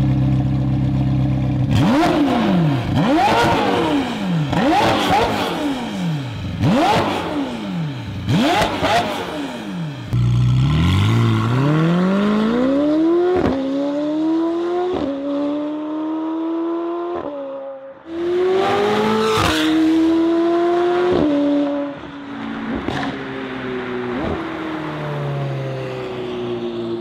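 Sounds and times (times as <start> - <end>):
sports car engine accelerating hard: 0.0 - 27.0.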